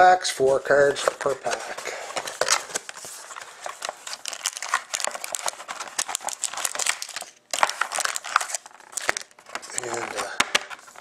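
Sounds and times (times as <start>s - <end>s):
card packs crinkling: 0.4s - 11.0s.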